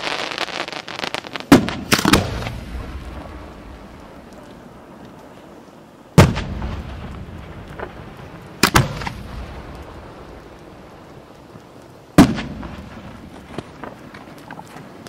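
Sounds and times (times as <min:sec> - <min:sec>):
firework mortar booms: 0:00.0 - 0:05.0, 0:06.1 - 0:14.2.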